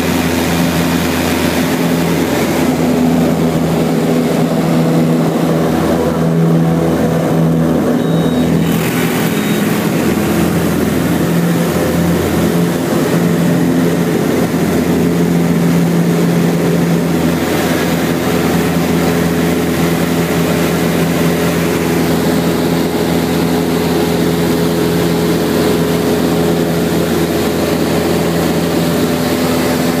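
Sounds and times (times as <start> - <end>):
airplane engine and propeller: 0.0 - 30.0.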